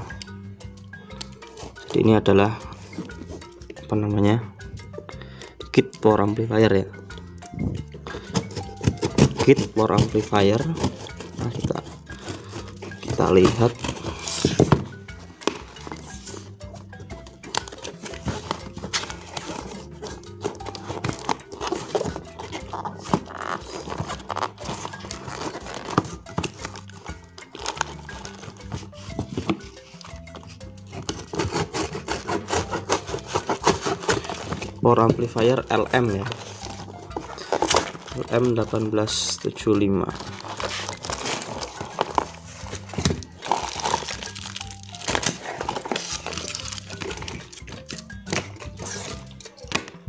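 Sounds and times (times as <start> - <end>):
background music: 0.0 - 50.0
cardboard rustling and scraping: 8.2 - 16.5, 17.6 - 49.9.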